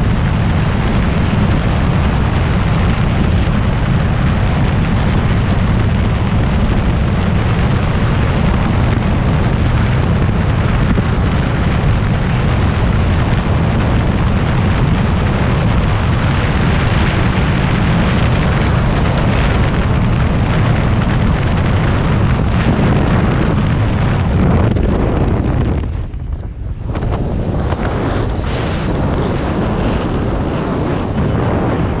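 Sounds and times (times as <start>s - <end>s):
wind roaring over microphone: 0.0s - 32.0s.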